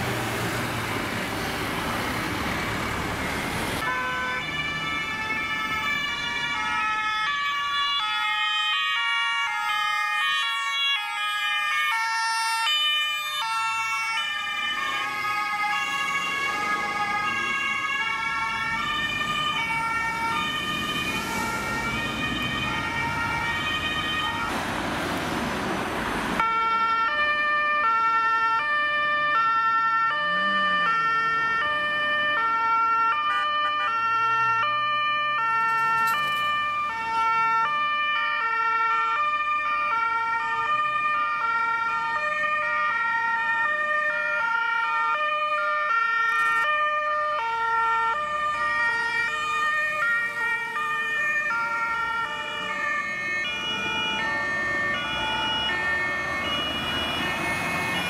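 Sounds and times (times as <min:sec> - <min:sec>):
truck engines passing: 0:00.0 - 0:58.0
two-tone emergency sirens: 0:00.0 - 0:58.0.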